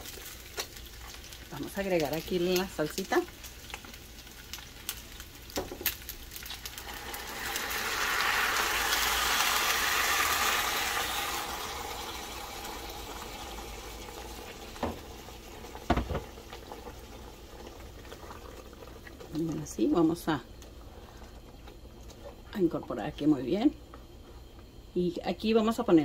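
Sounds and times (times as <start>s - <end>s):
sauce sizzling in a hot pan: 0.0s - 22.4s.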